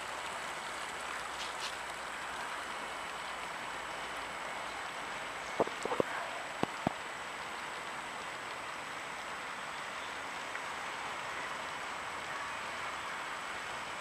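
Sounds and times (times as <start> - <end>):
distant street traffic hiss: 0.0 - 14.0.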